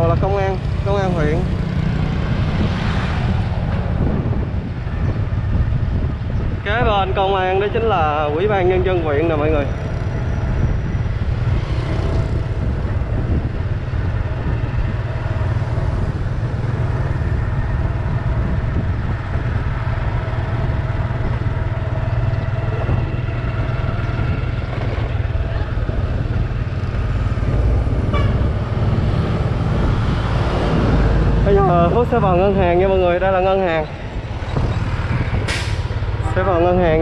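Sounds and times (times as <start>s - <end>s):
road and engine noise: 0.0s - 37.0s
wind rumble on microphone: 0.0s - 37.0s.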